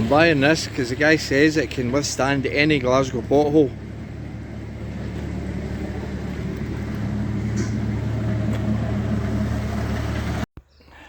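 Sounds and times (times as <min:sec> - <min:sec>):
motor humming: 0:00.0 - 0:10.4.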